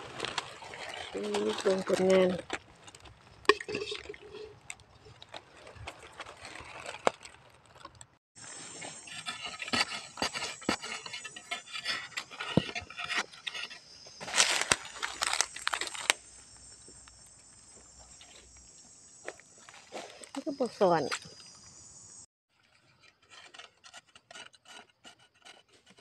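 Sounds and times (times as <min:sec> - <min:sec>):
scraping dry soil and leaves: 0:00.0 - 0:21.4, 0:22.6 - 0:26.0.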